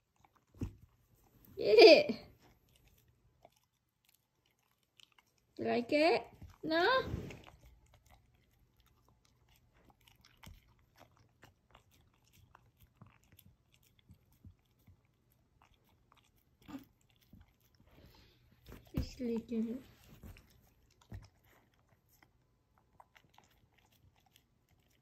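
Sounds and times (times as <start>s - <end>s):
puppy chewing with wet smacks: 0.0s - 1.6s, 2.2s - 25.0s.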